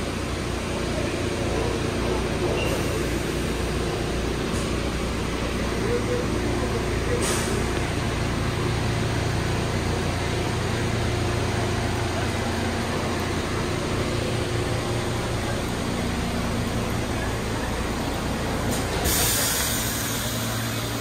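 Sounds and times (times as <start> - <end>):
subway train air-conditioning hum: 0.0 - 21.0.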